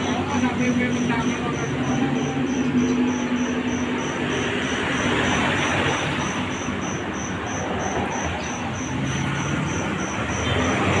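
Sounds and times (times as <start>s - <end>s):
high thin pulsing chirp: 0.0s - 11.0s.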